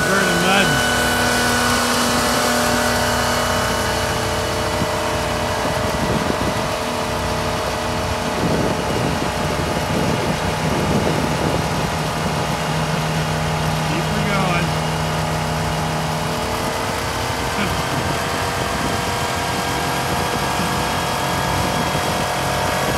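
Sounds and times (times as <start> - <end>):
car engine revving hard: 0.0 - 22.9
wheels spinning in snow: 0.0 - 22.9.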